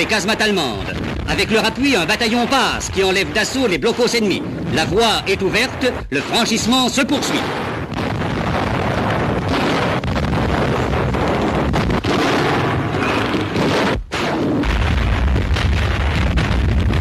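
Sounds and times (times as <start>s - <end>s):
gunfire: 0.0s - 17.0s
shell explosions: 0.0s - 17.0s.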